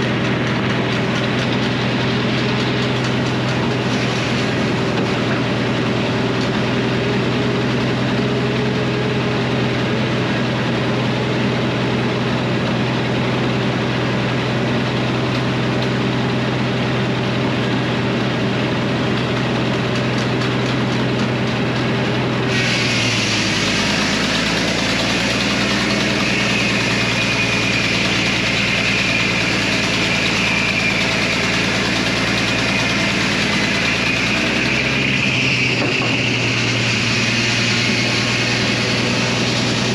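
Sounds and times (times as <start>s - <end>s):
saw blade whining through log: 0.0s - 39.9s
sawmill engine droning: 0.0s - 39.9s.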